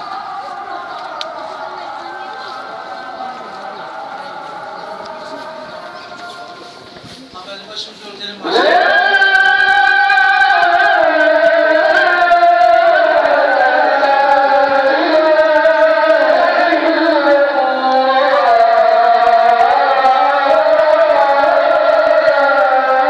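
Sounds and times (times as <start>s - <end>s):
person chanting in held notes: 0.0s - 6.8s, 8.4s - 23.0s.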